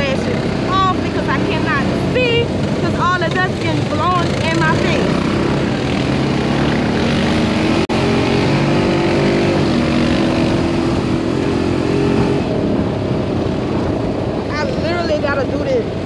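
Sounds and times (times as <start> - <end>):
dirt-road rumble: 0.0 - 16.0
off-road buggy engine running: 0.0 - 16.0
wind: 0.0 - 16.0.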